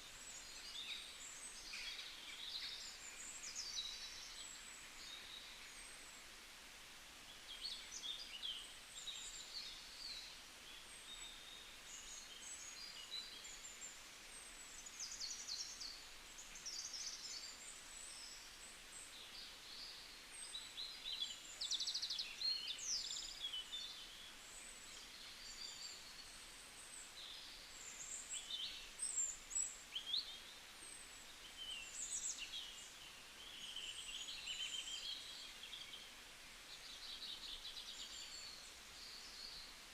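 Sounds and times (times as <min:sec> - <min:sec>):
small birds chirping: 0:00.0 - 0:06.4, 0:07.2 - 0:39.9
faint hiss: 0:00.0 - 0:39.9.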